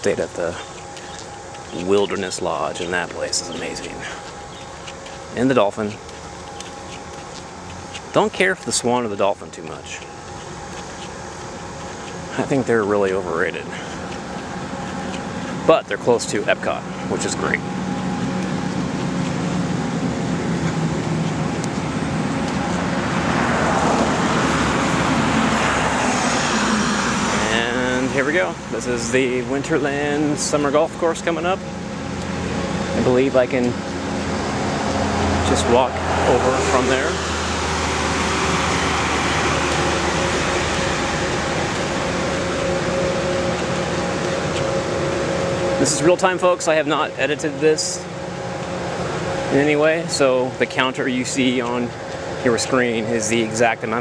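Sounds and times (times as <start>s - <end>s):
machine-like hum: 0.0s - 54.0s
road traffic rush: 0.0s - 54.0s
vehicle passing: 0.0s - 54.0s.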